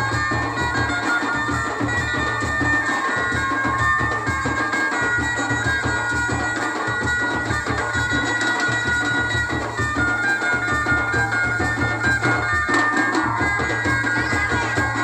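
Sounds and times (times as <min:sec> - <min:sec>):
driving drum beat: 0:00.0 - 0:15.0
reedy wind instrument: 0:00.0 - 0:15.0.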